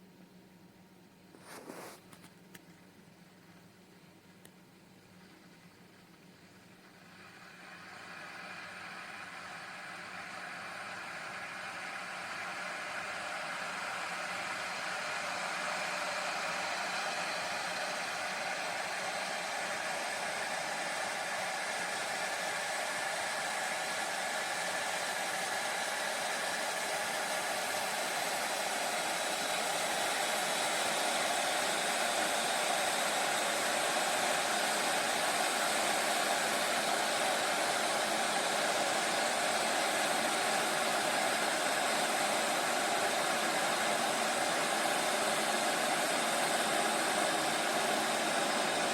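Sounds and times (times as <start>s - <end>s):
electric kettle heating water: 3.2s - 48.9s.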